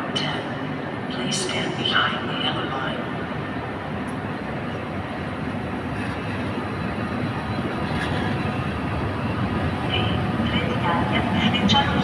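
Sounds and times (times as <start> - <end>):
train coaches rumbling: 0.0 - 12.0.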